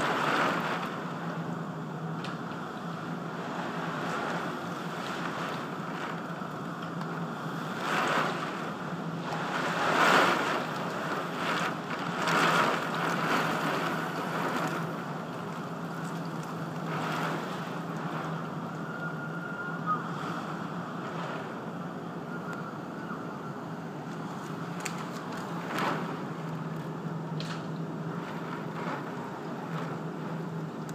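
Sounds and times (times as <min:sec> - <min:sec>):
rain: 0:00.0 - 0:30.9
wind gusting across microphone: 0:00.0 - 0:30.9.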